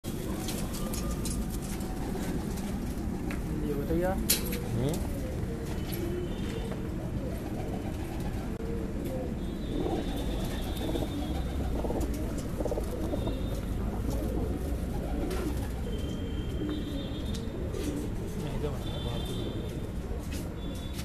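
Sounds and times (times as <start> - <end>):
pigeons cooing: 0.1 - 21.0.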